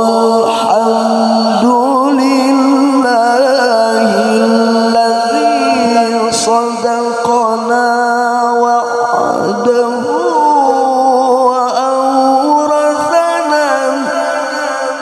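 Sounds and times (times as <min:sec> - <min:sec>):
man chanting through a microphone: 0:00.0 - 0:15.0.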